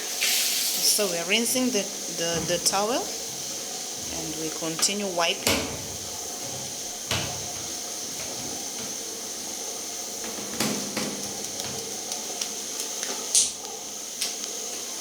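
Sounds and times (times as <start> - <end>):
wet towel wiping toilet: 0.0 - 12.8.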